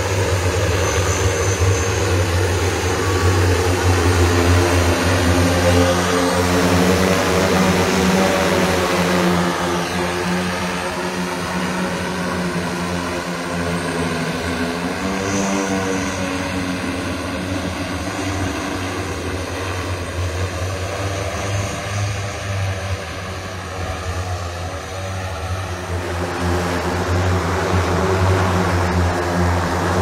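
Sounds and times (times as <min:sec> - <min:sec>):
multicopter propellers droning: 0:00.0 - 0:30.0.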